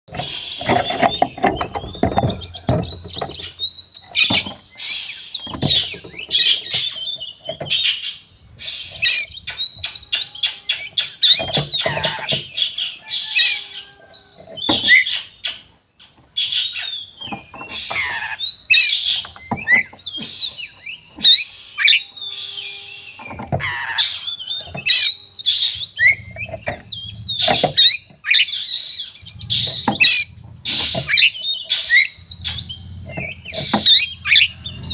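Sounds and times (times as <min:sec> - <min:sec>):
magpie-robin singing: 0:00.1 - 0:34.9.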